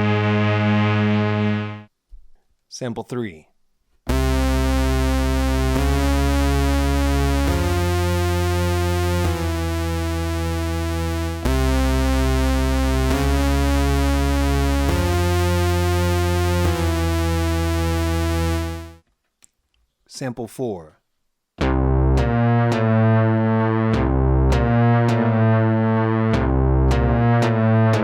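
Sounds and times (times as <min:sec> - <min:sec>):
synthesizer bass line: 0:00.0 - 0:01.9, 0:04.1 - 0:19.0, 0:21.6 - 0:28.0.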